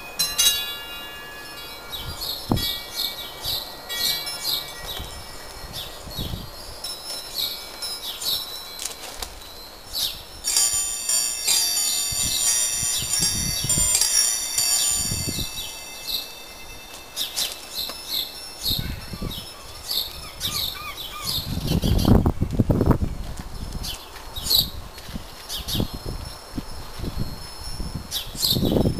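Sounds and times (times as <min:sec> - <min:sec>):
wind chimes ringing: 0:00.0 - 0:22.2, 0:25.6 - 0:28.9.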